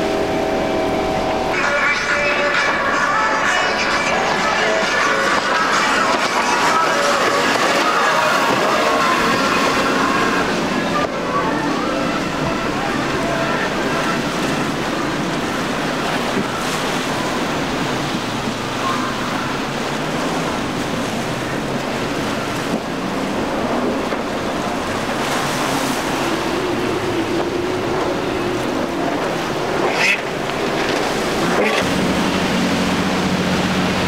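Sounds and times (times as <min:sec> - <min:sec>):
outboard engines running: 0:00.0 - 0:34.0
waves and spray rushing: 0:00.0 - 0:34.0.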